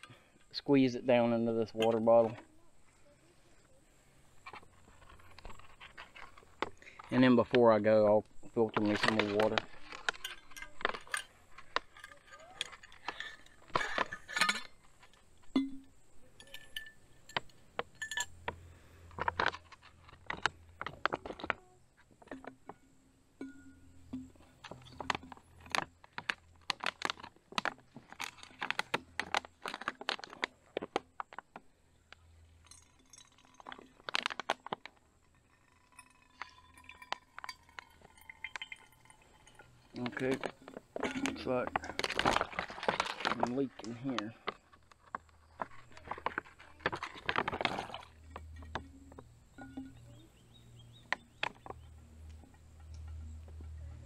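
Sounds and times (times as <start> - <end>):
water filter and bottle clinking: 4.4 - 31.4, 32.1 - 54.0.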